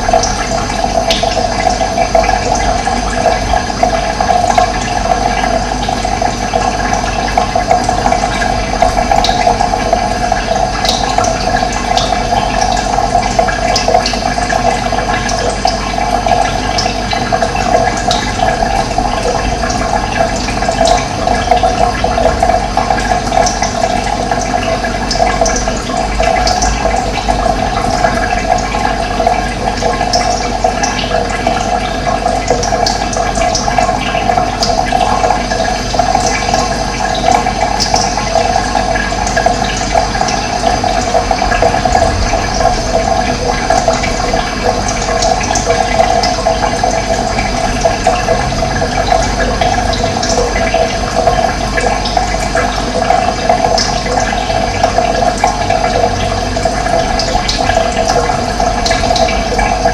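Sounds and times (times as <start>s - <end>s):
running water gurgling: 0.0s - 59.9s.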